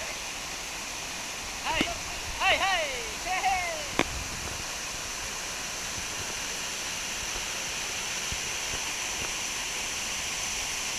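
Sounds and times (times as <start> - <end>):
waterfall roaring: 0.0 - 10.9.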